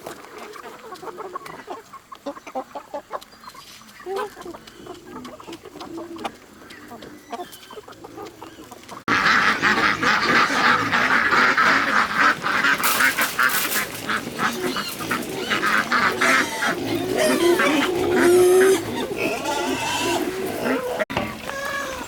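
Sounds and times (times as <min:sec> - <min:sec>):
waterfowl quacking and honking: 0:03.9 - 0:22.0.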